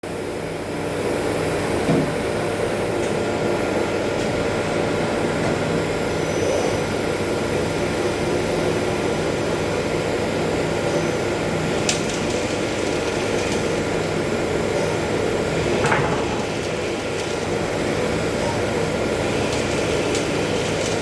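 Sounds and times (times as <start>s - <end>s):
lathe mechanical hum: 0.2s - 21.0s.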